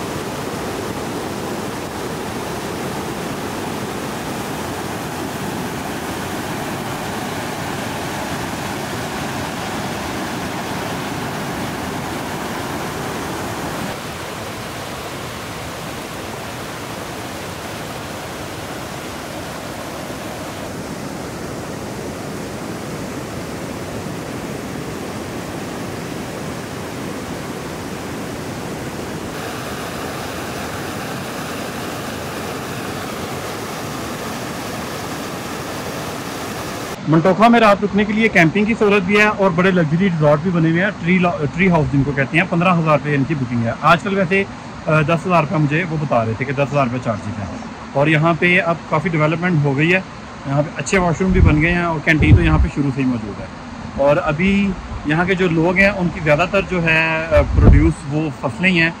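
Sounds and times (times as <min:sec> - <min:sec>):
mountain stream rushing over boulders: 0:00.0 - 0:59.0.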